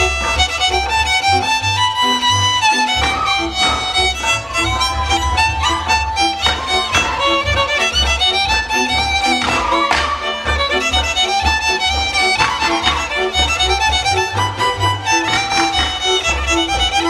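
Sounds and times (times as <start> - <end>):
fiddle melody: 0.0 - 17.0
folk dance music: 0.0 - 17.0.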